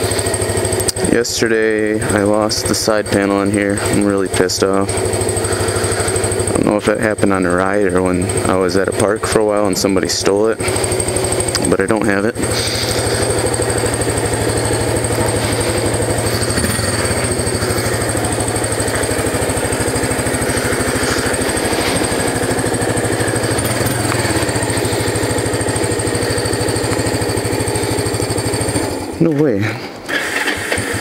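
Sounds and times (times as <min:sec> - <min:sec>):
motorcycle engine idling: 0:00.0 - 0:29.2.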